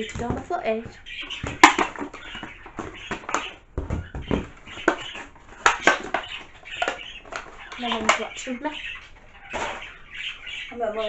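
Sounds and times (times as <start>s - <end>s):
plastic packaging handling: 0.0s - 10.6s.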